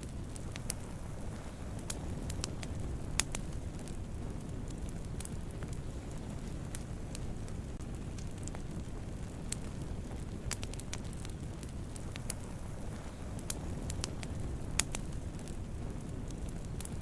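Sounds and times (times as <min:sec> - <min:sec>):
campfire flames rumbling: 0:00.0 - 0:17.0
crackles and pops of burning wood: 0:00.0 - 0:17.0.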